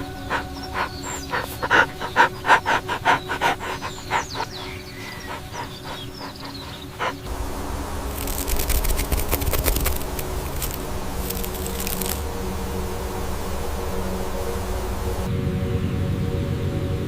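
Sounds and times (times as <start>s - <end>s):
animal panting: 0.0s - 15.3s.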